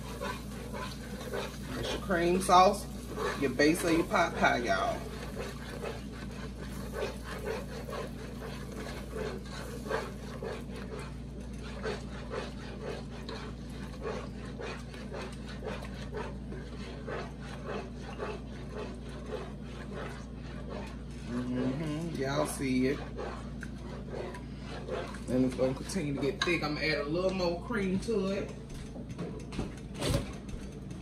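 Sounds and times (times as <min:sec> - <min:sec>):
spatula scraping a metal pot: 0:00.0 - 0:28.6
steady low hum: 0:00.0 - 0:31.0.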